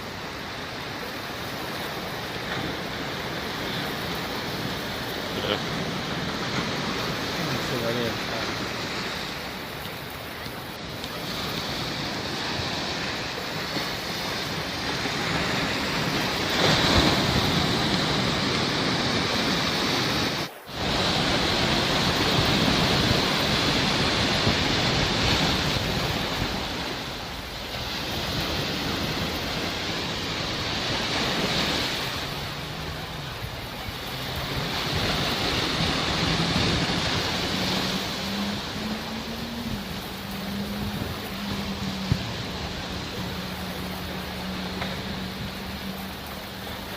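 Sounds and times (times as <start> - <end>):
sea waves washing ashore: 0.0 - 46.9.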